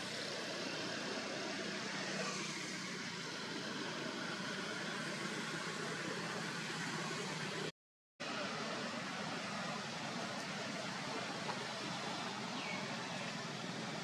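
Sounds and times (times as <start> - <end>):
continuous hiss: 0.0 - 14.0.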